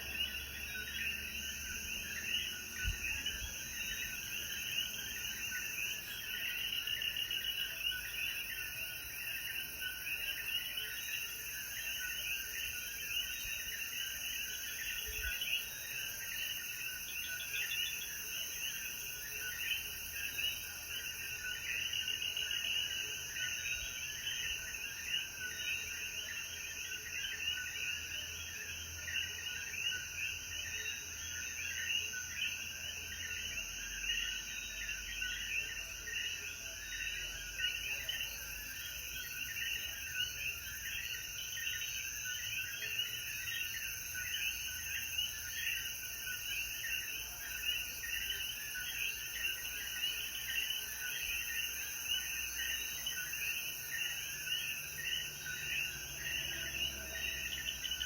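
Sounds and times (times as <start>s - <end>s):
frogs chirping: 0.0s - 58.0s.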